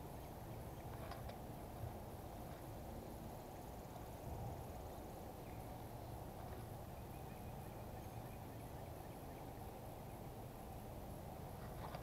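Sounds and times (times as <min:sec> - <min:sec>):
low outdoor rumble and hiss: 0:00.0 - 0:12.0.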